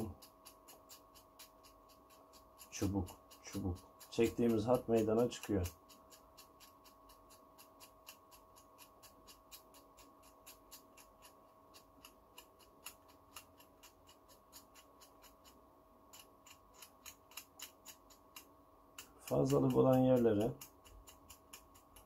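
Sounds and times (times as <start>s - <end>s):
blade scraping circuit board: 0.0s - 22.0s.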